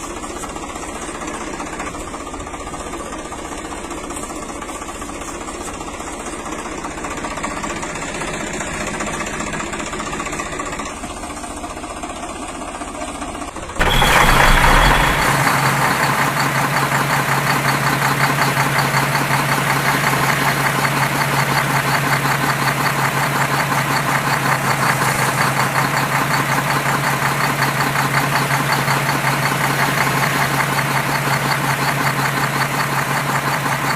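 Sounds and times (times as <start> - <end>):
engine running with fast knocking: 0.0 - 33.9
engine with low hum: 0.0 - 33.9.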